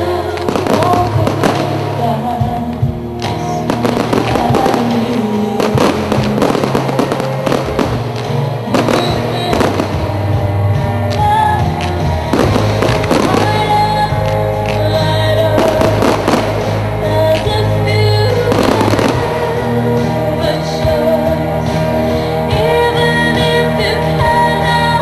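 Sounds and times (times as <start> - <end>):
fireworks bangs and crackles: 0.0 - 21.0
music with sustained notes: 0.0 - 25.0.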